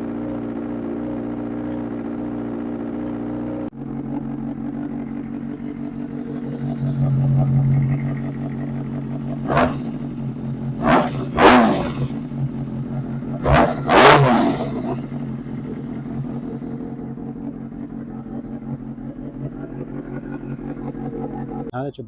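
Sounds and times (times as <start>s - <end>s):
motorcycle engine revving: 0.0s - 21.7s
motorcycle engine idling: 0.0s - 21.8s.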